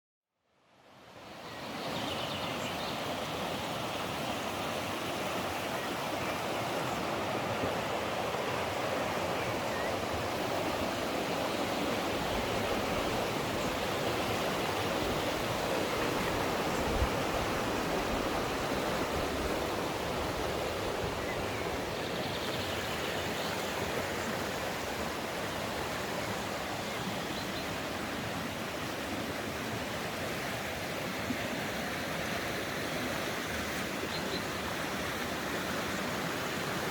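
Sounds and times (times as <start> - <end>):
mountain stream rushing: 0.9 - 36.9.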